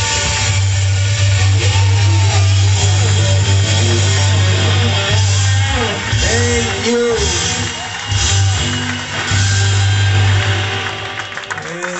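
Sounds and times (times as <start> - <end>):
bass line: 0.0 - 11.6
electric guitar: 0.0 - 11.9.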